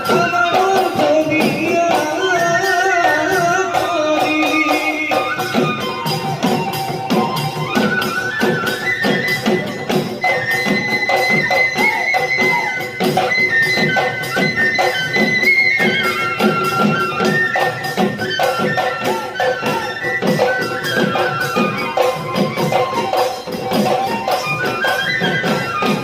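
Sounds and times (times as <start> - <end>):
drums beating: 0.0 - 26.0
wind instrument melody: 0.0 - 26.0.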